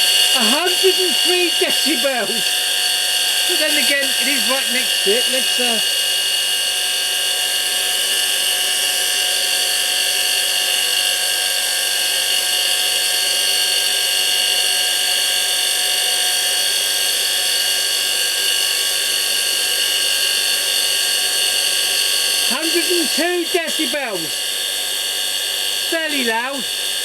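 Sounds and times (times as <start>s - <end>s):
bench grinder high-pitched whine: 0.0s - 27.0s.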